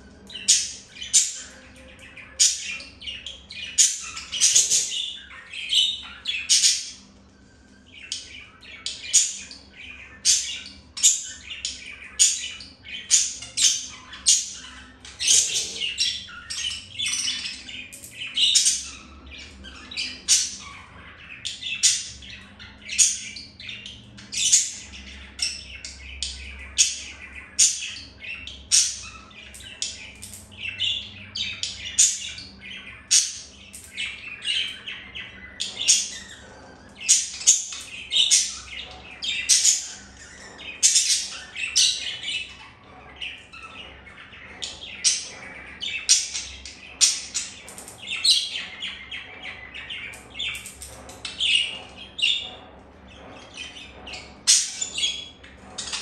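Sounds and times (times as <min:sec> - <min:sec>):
budgerigars chirping: 0:00.0 - 0:56.0.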